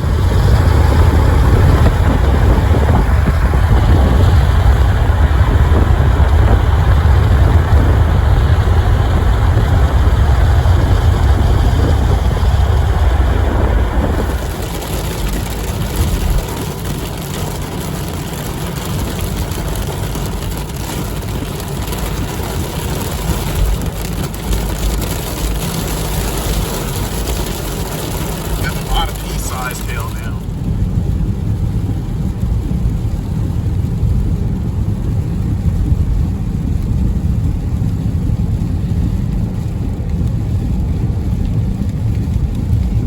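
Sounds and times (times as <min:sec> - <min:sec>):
car engine rumble: 0:00.0 - 0:43.0
road noise: 0:00.0 - 0:43.0.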